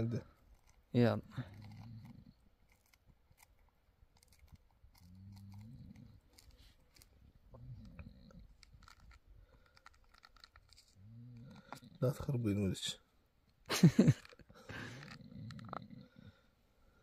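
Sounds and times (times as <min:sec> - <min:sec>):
faint clicks and crackles: 0:00.1 - 0:12.0, 0:13.4 - 0:16.1.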